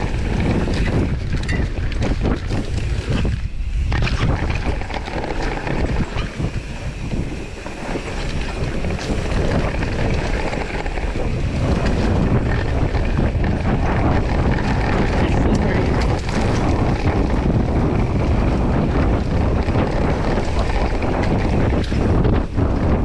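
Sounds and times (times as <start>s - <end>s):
bike rattling over bumps: 0.0s - 23.0s
tyres rolling over dirt: 0.0s - 23.0s
wind rushing over microphone: 0.0s - 23.0s.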